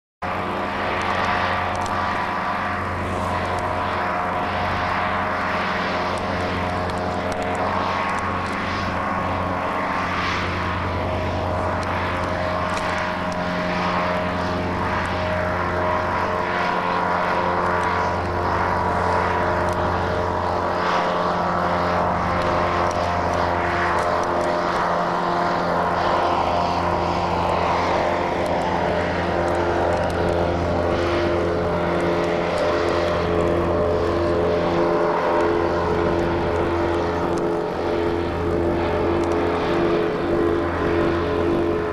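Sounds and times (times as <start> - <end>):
airship engines droning: 0.2 - 41.9.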